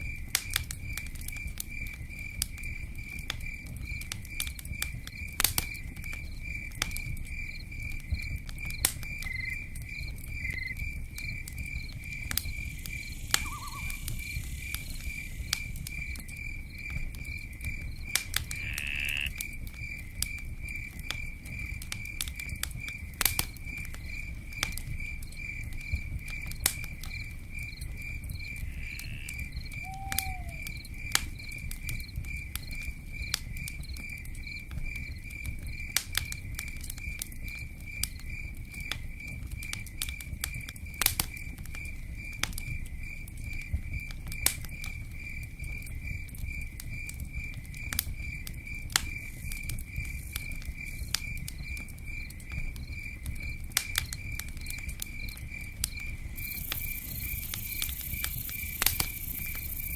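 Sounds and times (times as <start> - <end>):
campfire crackling and popping: 0.0 - 59.9
cricket chirping: 0.0 - 59.9.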